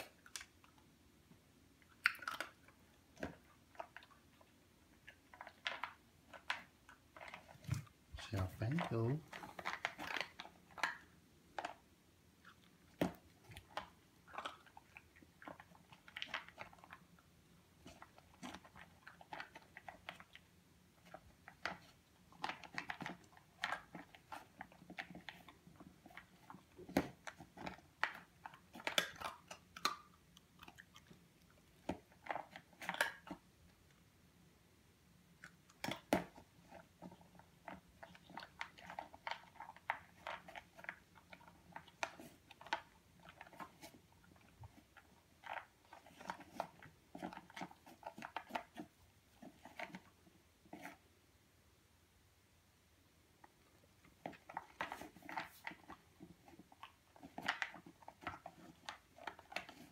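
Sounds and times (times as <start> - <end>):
puppy crunching food: 0.0 - 1.0, 1.7 - 34.0, 35.3 - 51.0, 53.4 - 59.9.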